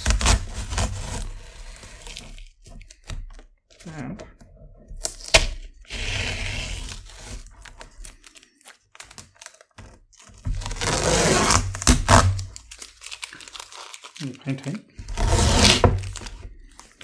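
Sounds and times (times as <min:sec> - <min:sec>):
masking tape peeling and crinkling: 0:00.0 - 0:03.3, 0:04.9 - 0:17.0.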